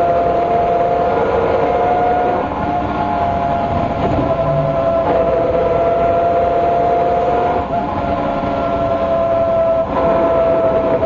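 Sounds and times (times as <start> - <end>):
bus diesel engine: 0.0 - 11.0
bus differential whining: 0.0 - 11.0.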